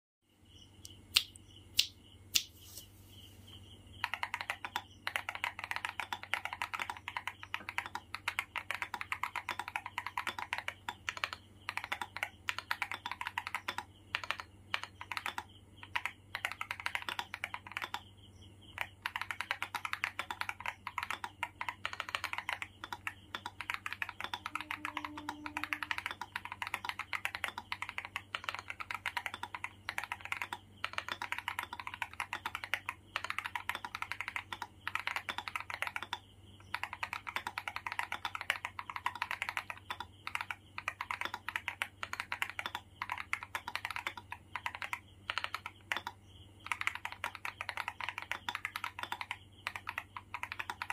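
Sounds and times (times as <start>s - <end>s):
mechanical keyboard typing: 4.0s - 18.0s, 18.7s - 50.9s.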